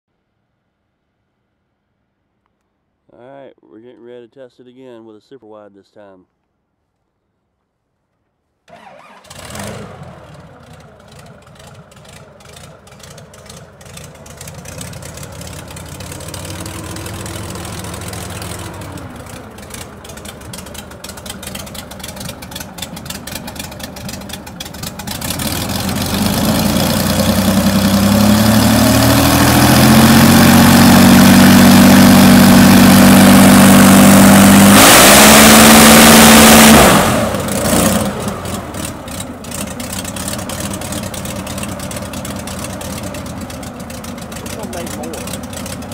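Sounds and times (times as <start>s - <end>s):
airboat engine revving: 8.7s - 45.9s.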